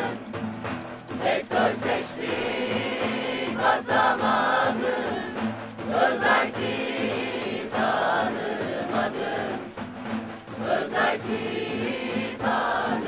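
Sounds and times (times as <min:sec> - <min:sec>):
group singing a protest song: 0:00.0 - 0:00.4, 0:01.1 - 0:13.0
acoustic guitar: 0:00.0 - 0:13.0.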